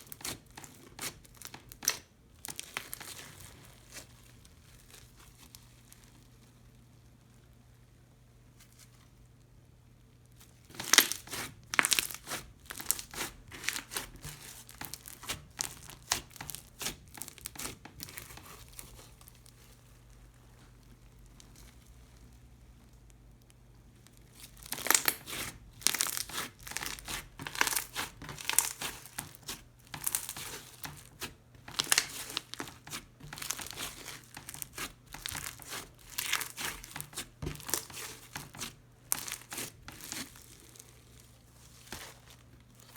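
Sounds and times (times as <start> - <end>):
crunchy slime crackling and popping: 0.0 - 7.6, 8.6 - 42.9.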